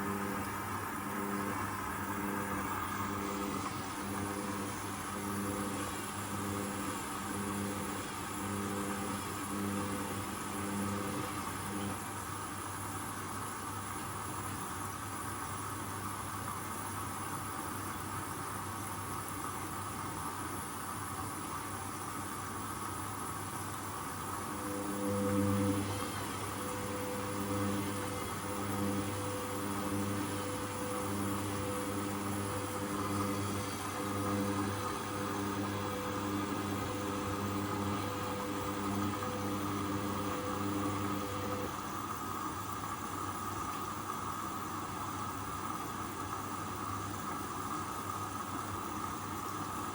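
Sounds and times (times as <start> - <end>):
washing machine motor humming: 0.0 - 17.9, 20.8 - 49.9
steady hiss: 0.0 - 49.9.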